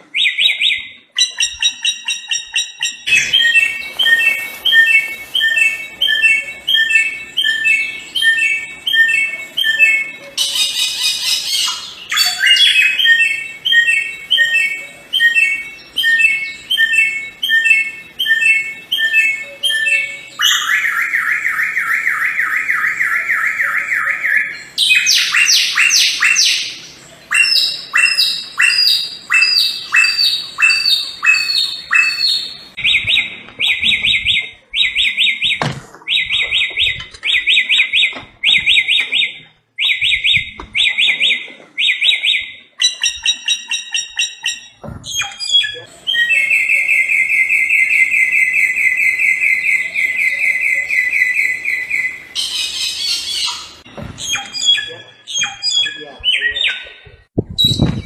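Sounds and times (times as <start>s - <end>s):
songbird trilling: 0.2s - 56.9s.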